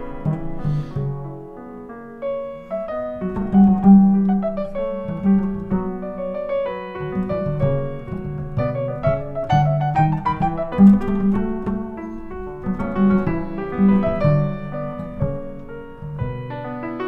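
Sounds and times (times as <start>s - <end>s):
double bass notes: 0.0s - 17.0s
jazz piano: 0.0s - 17.0s.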